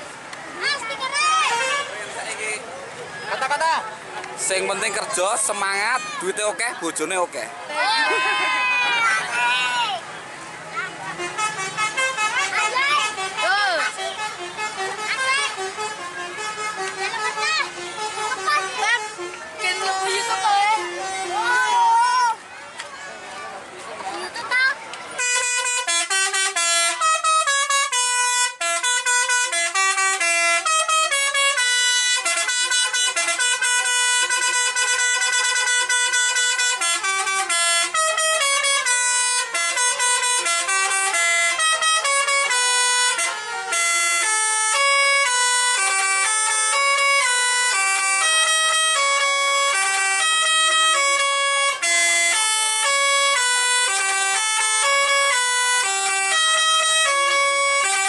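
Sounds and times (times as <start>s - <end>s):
musical bus air horns: 0.0s - 2.6s, 7.8s - 22.4s, 25.1s - 58.0s.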